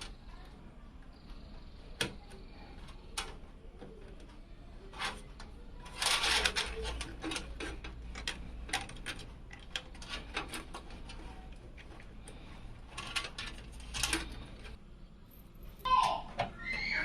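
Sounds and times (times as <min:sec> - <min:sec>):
computer parts clicking and knocking: 0:00.0 - 0:14.8
scraping rustle: 0:01.2 - 0:15.8.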